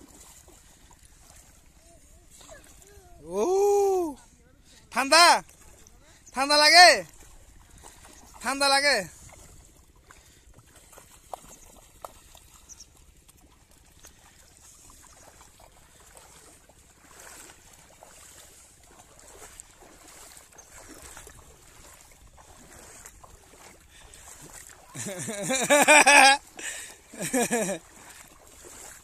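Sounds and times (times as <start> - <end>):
feet splashing in shallow water: 0.0 - 29.0.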